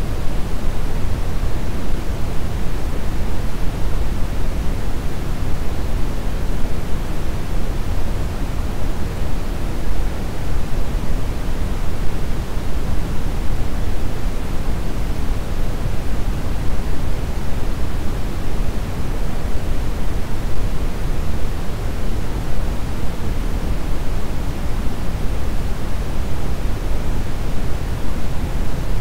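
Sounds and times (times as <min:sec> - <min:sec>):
brown noise hiss: 0:00.0 - 0:29.0.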